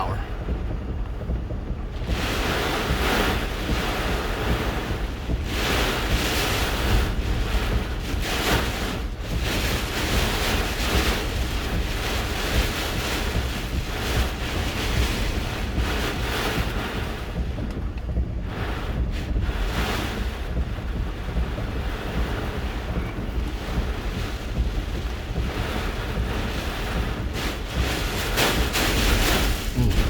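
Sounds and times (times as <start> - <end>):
wind gusting: 0.0 - 30.0
wind rumble on microphone: 0.0 - 30.0.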